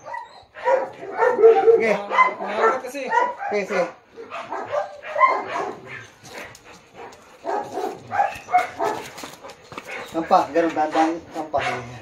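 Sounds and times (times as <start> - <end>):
dog barking and whining: 0.0 - 12.0.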